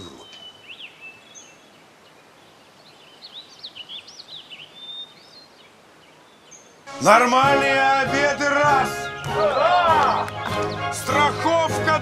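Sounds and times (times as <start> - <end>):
small birds chirping: 0.0 - 6.9, 8.8 - 11.6
faint outdoor hiss: 0.0 - 12.0.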